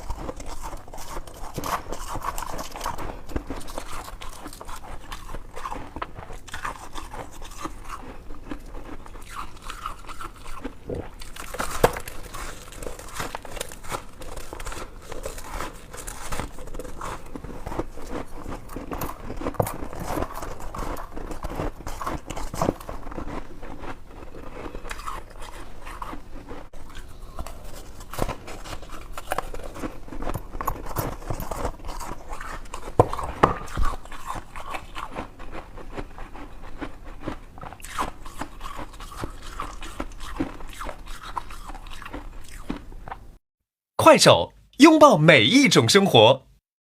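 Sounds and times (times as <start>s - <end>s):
person chewing crunchy ice: 0.0s - 43.3s.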